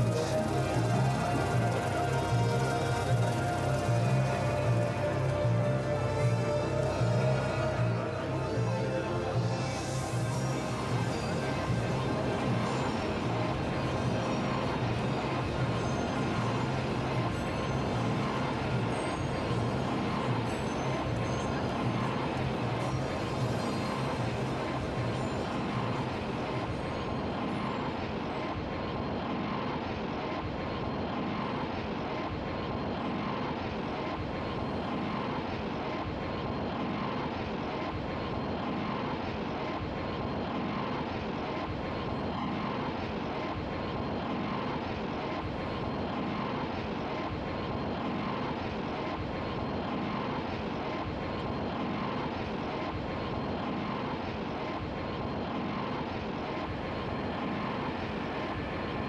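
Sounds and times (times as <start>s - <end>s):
airliner engine noise: 0.0s - 59.0s
faint engine whine: 0.0s - 59.0s.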